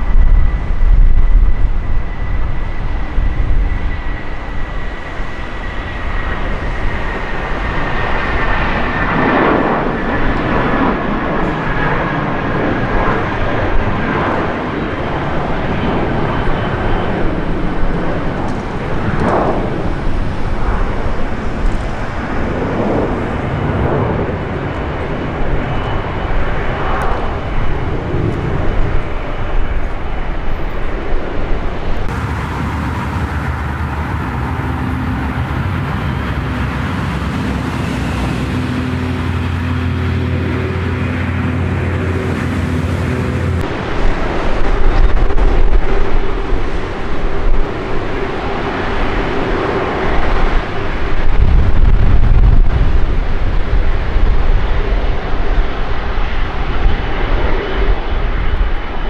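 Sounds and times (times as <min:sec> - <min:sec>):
jet engine roar with high whine: 0:00.0 - 0:59.0.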